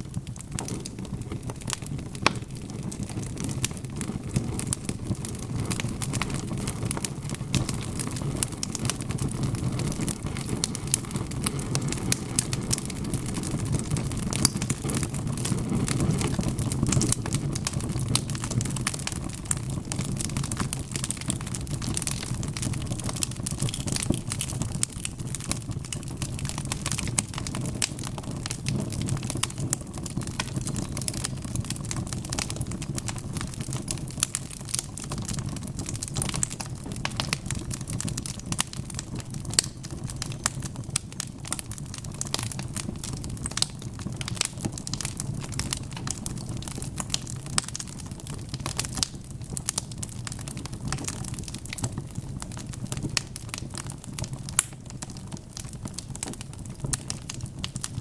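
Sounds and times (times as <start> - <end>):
fire crackling with sharp pops: 0.0 - 58.0
low rumble of burning logs: 0.0 - 58.0.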